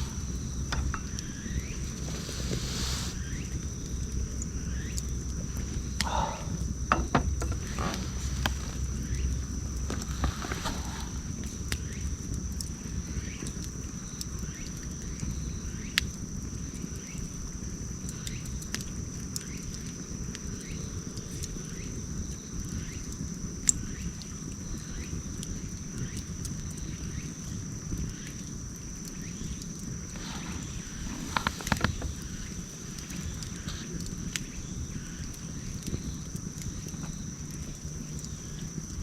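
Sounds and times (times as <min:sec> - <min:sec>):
campfire flames rumbling: 0:00.0 - 0:39.0
fire crackling and popping: 0:00.0 - 0:39.0.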